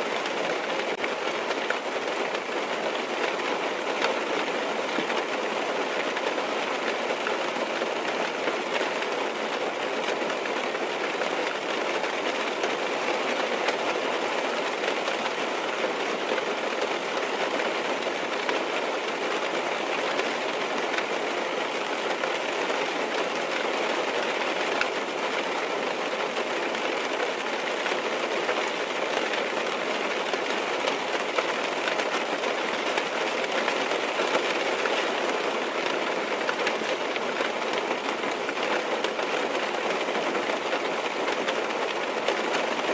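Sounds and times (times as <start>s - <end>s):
rain on car roof: 0.1s - 42.9s.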